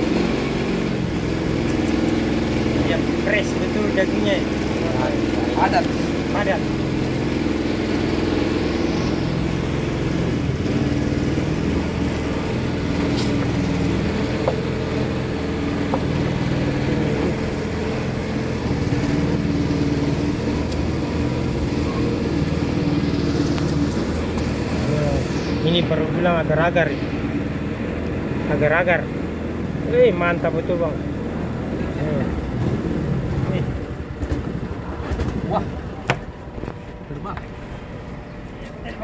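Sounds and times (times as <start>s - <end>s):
motor engine running: 0.0s - 39.0s.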